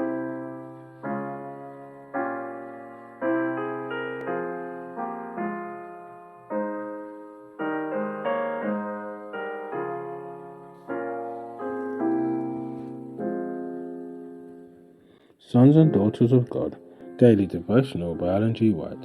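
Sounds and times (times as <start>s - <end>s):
slow solo piano chords: 0.0s - 19.0s.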